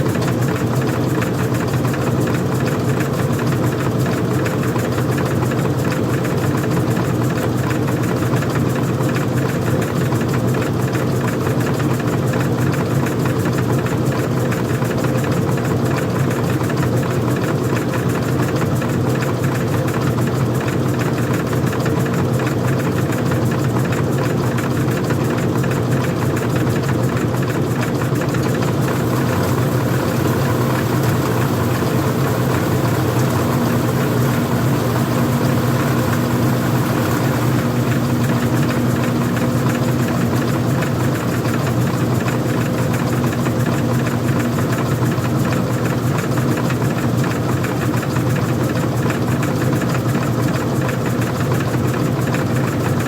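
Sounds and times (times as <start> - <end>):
washing machine humming: 0.0 - 11.6, 14.8 - 53.0.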